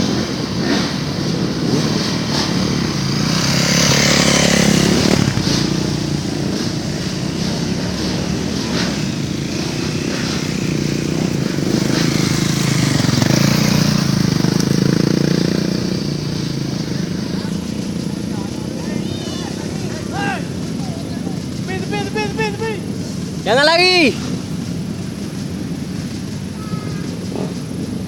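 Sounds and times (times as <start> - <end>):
dirt bike engines running: 0.0 - 28.0.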